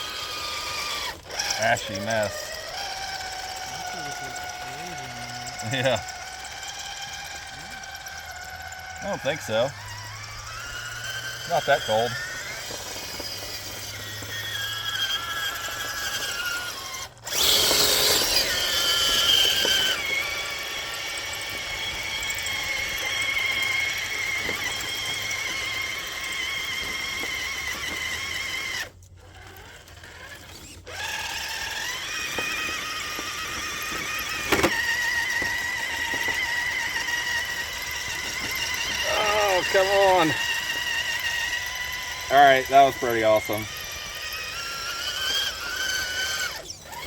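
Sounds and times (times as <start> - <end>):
electric motor and gearbox whining: 0.0 - 47.0.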